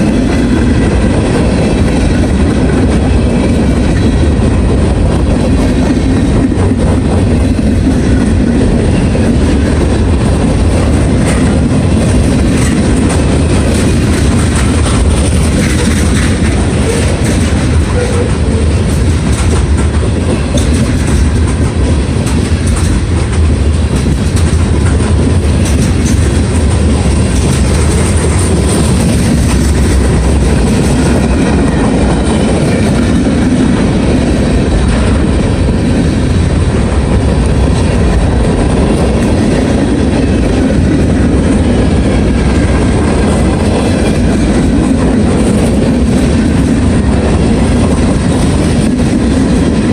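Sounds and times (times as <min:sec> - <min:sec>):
freight train wheels on rail: 0:00.0 - 0:49.9.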